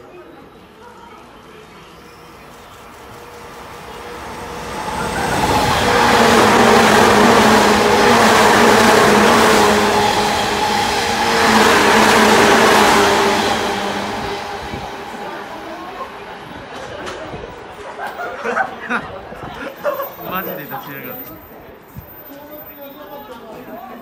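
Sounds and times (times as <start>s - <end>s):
train wheels rushing on rails: 0.3s - 24.0s.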